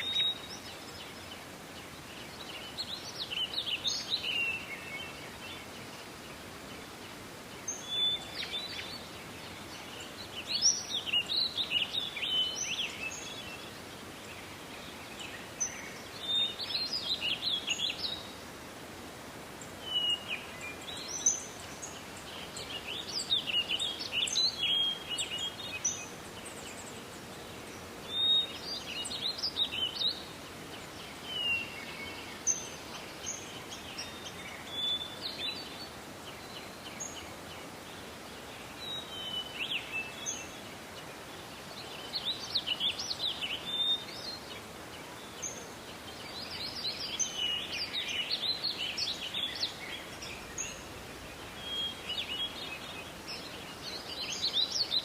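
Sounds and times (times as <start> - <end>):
soft hiss of forest ambience: 0.0 - 55.0
songbirds chirping and trilling: 0.0 - 55.0.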